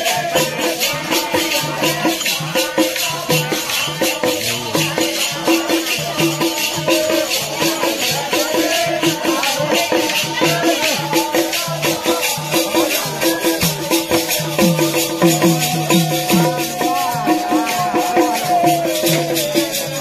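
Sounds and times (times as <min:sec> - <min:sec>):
drum beat: 0:00.0 - 0:20.0
jingling rattle percussion: 0:00.0 - 0:20.0.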